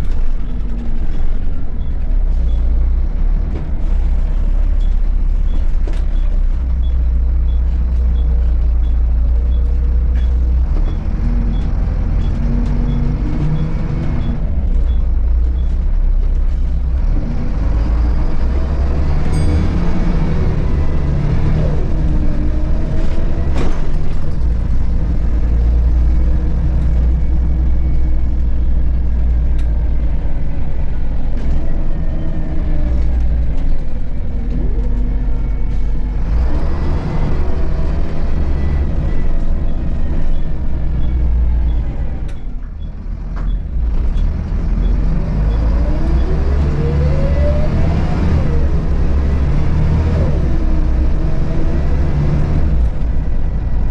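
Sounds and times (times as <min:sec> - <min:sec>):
bus diesel engine droning: 0:00.0 - 0:53.9.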